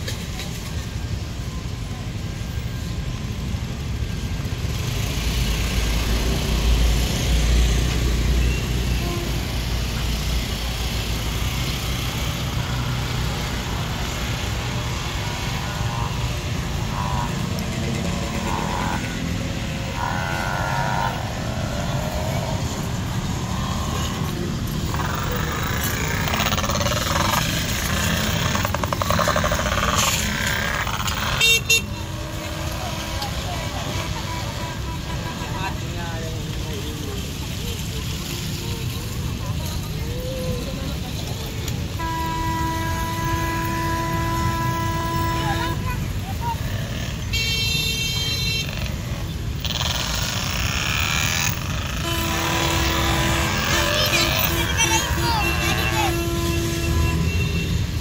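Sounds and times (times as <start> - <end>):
motor traffic: 0.0 - 58.0
voices of people: 7.7 - 49.7, 51.3 - 57.9.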